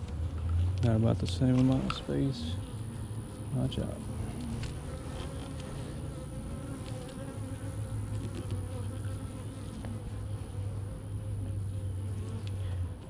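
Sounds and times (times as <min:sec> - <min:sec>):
bees buzzing: 0:01.1 - 0:13.0.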